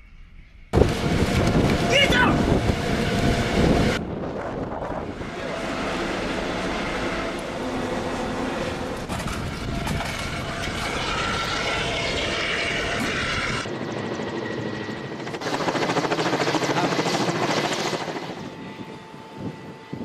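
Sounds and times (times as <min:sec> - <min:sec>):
helicopter rotor chop: 0:00.7 - 0:20.0.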